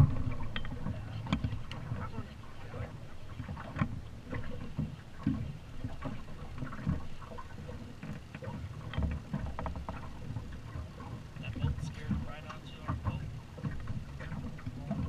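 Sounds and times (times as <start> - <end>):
water slapping boat hull: 0.0 - 15.0.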